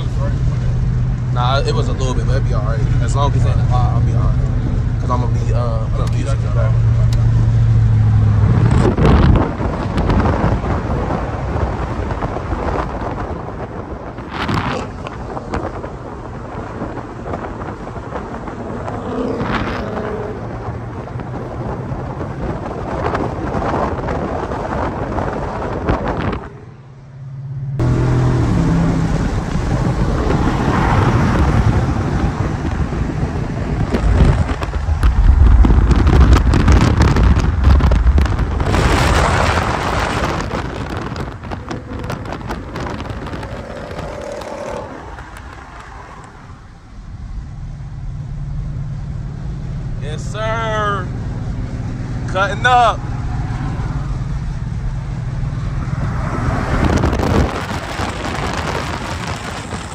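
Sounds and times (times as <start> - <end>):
wind buffeting microphone: 0.0 - 27.1, 27.8 - 50.4, 53.0 - 59.9
car engine rumbling: 0.0 - 59.9.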